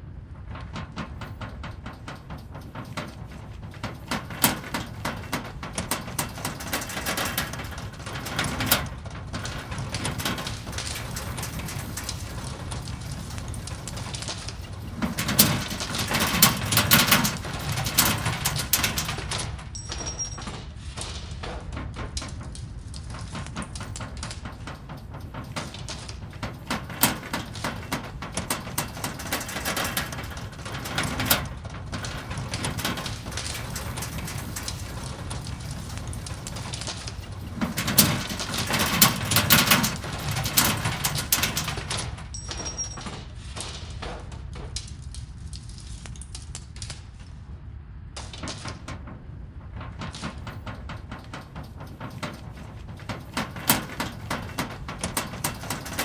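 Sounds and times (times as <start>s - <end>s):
deep earthquake rumble: 0.0s - 19.7s, 21.8s - 42.2s, 48.4s - 56.0s
rattling and crackling: 0.0s - 43.2s, 48.2s - 56.0s.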